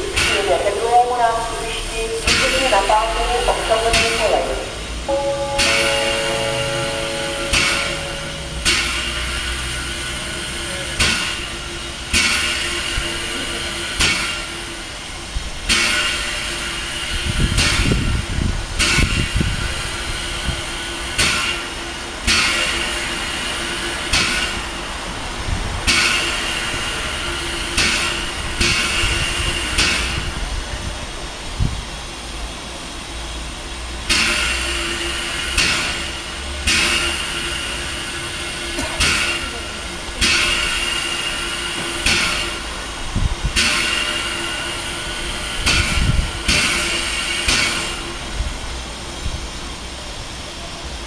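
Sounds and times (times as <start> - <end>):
steam locomotive hissing chuffs: 0.0 - 51.0.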